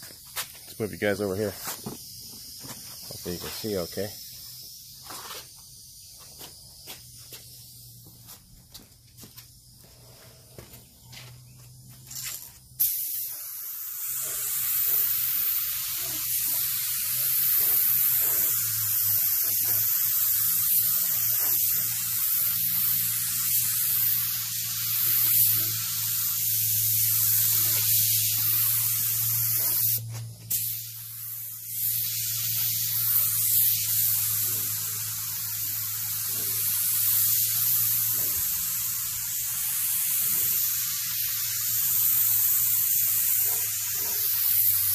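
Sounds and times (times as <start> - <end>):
spray gun hissing: 0.0 - 44.9
steady low hum: 0.0 - 44.9.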